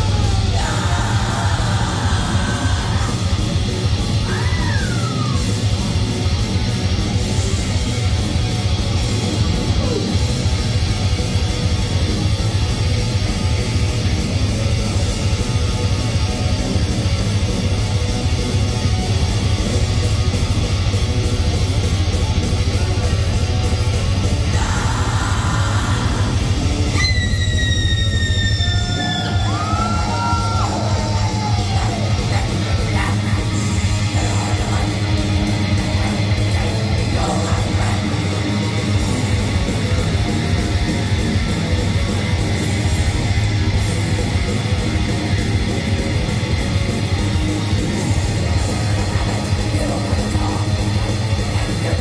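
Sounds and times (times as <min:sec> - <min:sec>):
distorted electric guitar: 0:00.0 - 0:52.0
heavy metal band playing: 0:00.0 - 0:52.0
pounding drums and bass: 0:00.0 - 0:52.0.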